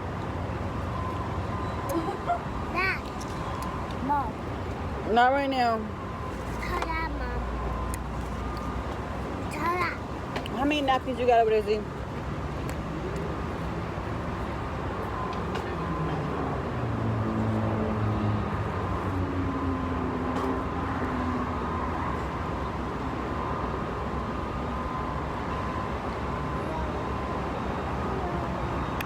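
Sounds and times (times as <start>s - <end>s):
engine low drone: 0.0s - 29.0s
traffic noise: 0.0s - 29.0s.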